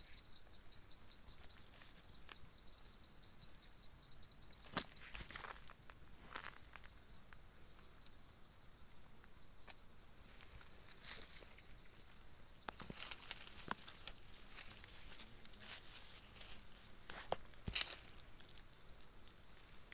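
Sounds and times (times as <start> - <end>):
insects singing: 0.0 - 19.9.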